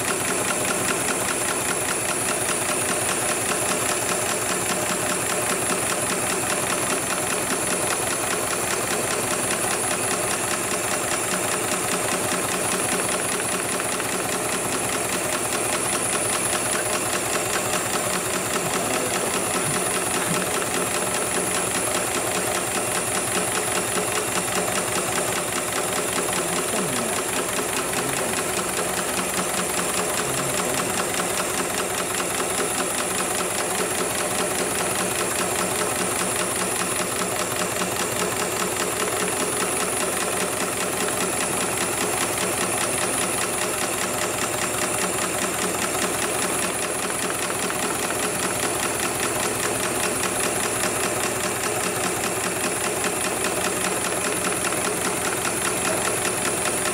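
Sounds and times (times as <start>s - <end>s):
sewing machine stitching rapidly: 0.0s - 56.9s.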